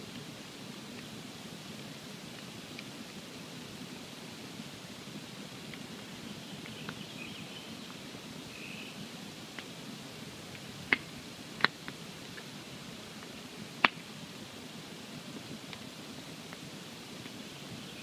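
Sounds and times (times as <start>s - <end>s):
campfire burning: 0.0s - 18.0s
fire crackles: 0.0s - 18.0s.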